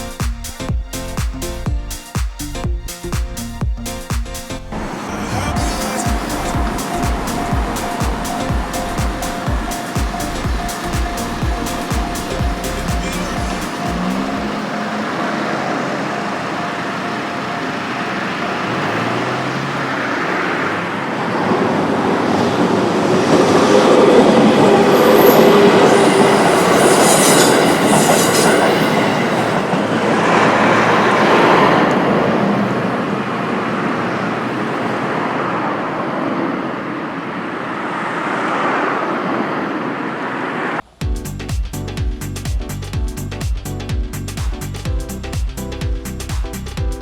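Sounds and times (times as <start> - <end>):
train running past: 0.0 - 41.0.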